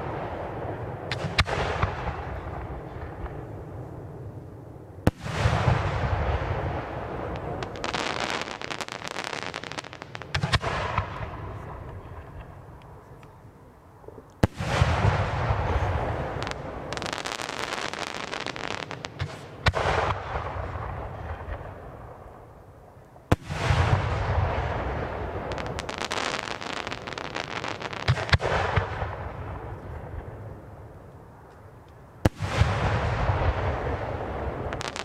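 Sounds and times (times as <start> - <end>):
fireworks bangs: 0.0 - 4.2, 5.0 - 12.8, 14.4 - 22.5, 23.3 - 30.8, 32.2 - 35.0
fireworks crackling: 5.0 - 13.4, 14.3 - 22.6, 23.3 - 35.0.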